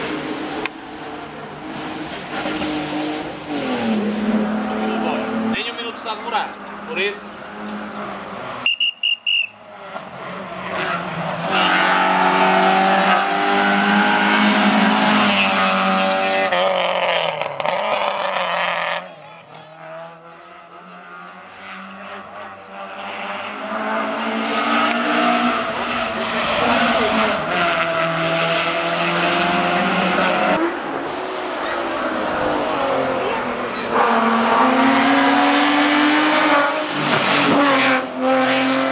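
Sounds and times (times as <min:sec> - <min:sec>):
rally car engine revving: 0:00.0 - 0:08.6, 0:09.7 - 0:38.9.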